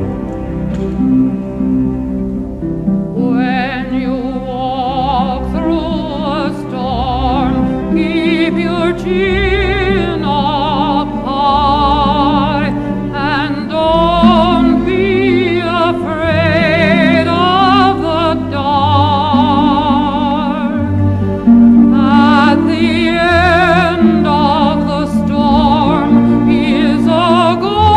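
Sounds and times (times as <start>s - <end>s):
low sustained accompaniment: 0.0s - 27.9s
operatic singer with vibrato: 3.2s - 27.9s.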